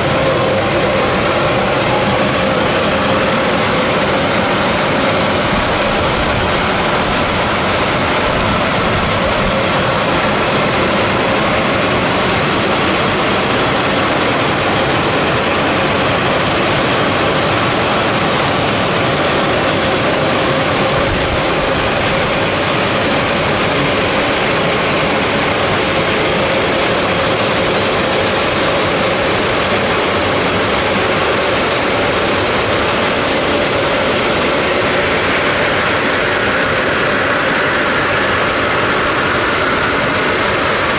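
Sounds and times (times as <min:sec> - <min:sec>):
car wash machine rushing: 0:00.0 - 0:40.9.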